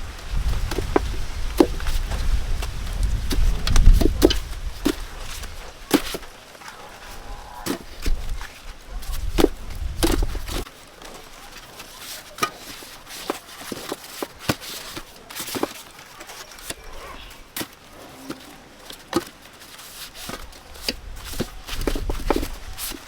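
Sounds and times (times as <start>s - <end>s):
blade chopping plant material: 0.1s - 23.0s.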